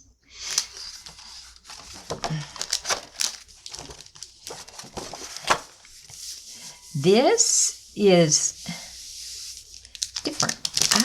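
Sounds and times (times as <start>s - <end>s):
paper pages rustling: 0.3s - 11.0s.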